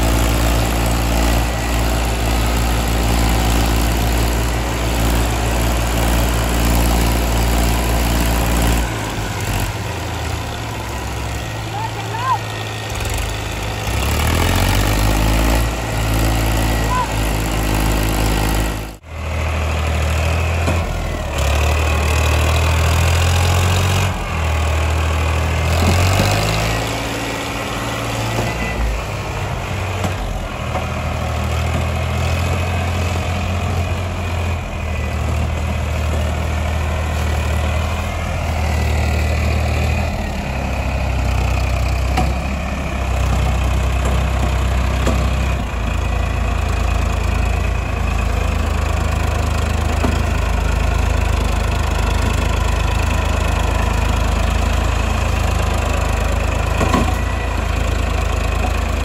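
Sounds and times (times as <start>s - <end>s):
diesel tractor engines running: 0.0s - 59.0s.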